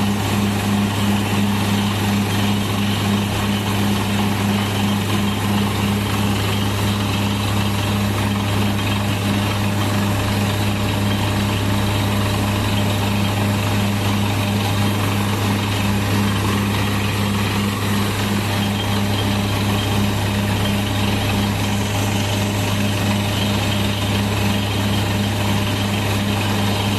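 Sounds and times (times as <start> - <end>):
drilling rig engine running: 0.0 - 26.9.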